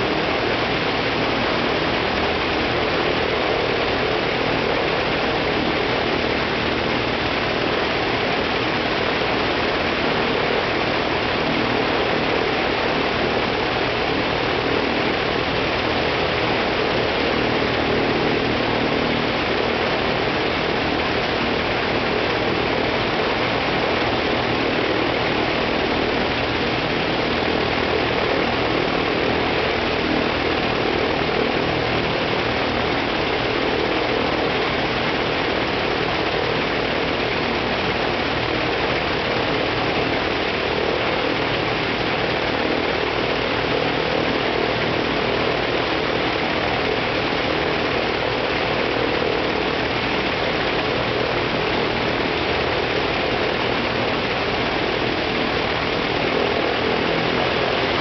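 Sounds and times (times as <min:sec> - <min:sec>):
propeller engine droning: 0:00.0 - 0:58.0.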